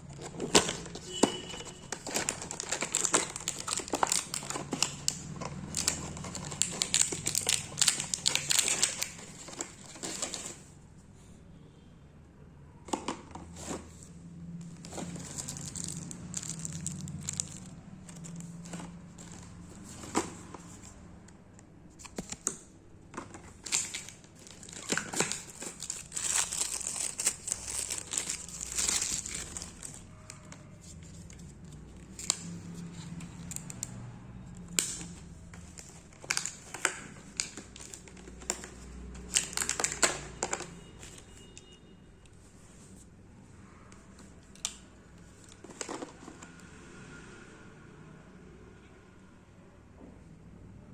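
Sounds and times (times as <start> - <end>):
plastic and paper crinkling: 0.0 - 10.8, 12.9 - 21.3, 21.9 - 34.0, 34.7 - 43.1, 44.0 - 46.5.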